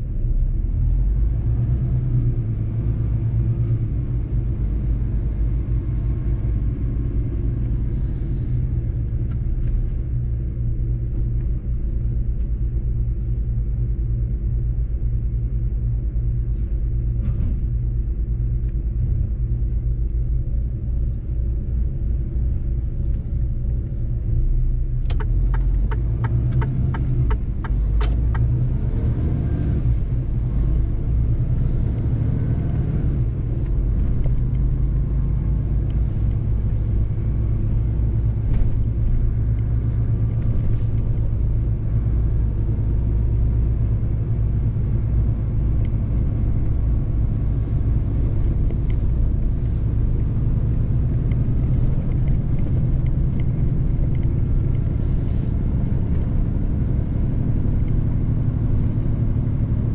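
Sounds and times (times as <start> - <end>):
diesel truck engine droning: 0.0 - 59.9
road rumble: 0.0 - 59.9.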